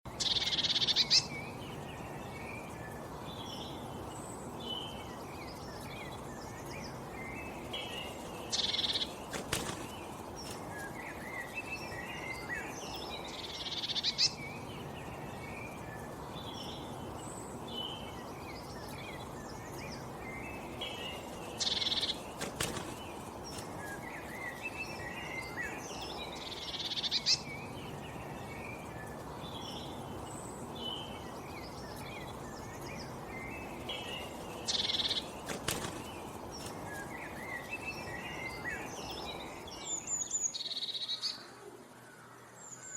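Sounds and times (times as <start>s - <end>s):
birds chirping and twittering: 0.1s - 42.9s
outdoor background hiss: 0.1s - 42.9s.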